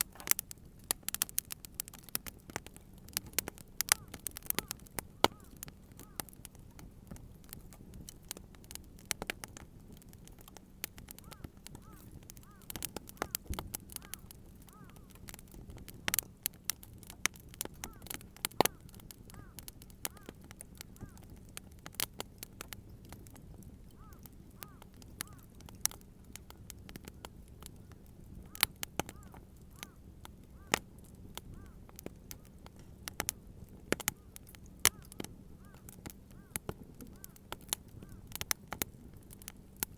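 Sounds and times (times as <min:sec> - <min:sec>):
burning wood popping: 0:00.0 - 0:39.9
campfire crackling: 0:00.0 - 0:39.9.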